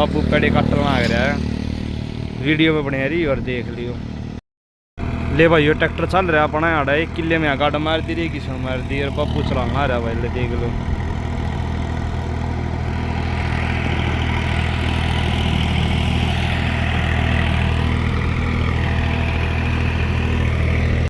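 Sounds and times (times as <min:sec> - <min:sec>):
tractor engine droning: 0:00.0 - 0:04.4, 0:05.0 - 0:21.0.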